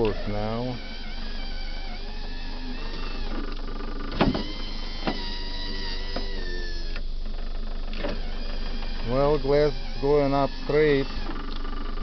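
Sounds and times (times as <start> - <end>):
window motor running: 0.0 - 12.0.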